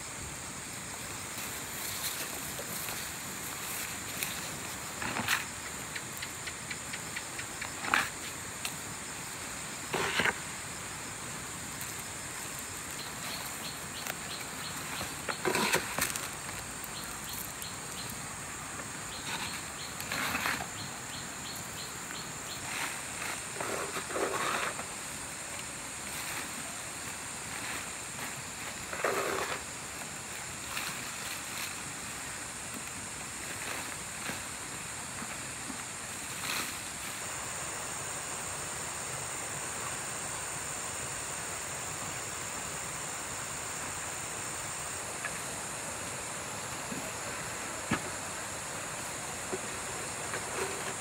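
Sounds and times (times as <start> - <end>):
steady high hiss: 0.0 - 51.0.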